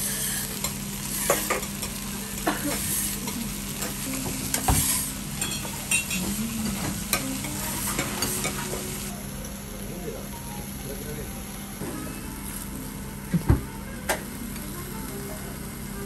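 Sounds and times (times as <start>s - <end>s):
pancake sizzling on griddle: 0.0s - 10.2s, 11.7s - 16.0s.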